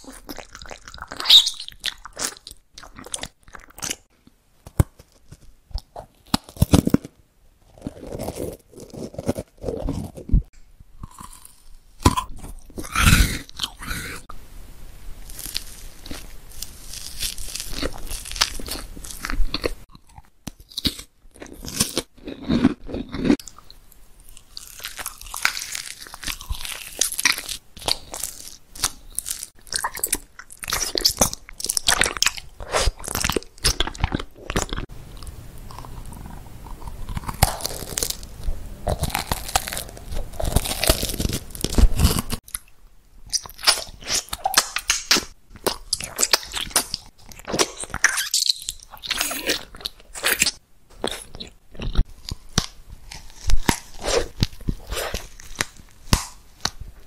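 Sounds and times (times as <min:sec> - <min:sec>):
crunchy chewing: 0:04.7 - 0:14.3, 0:15.3 - 0:42.7, 0:43.3 - 0:56.8.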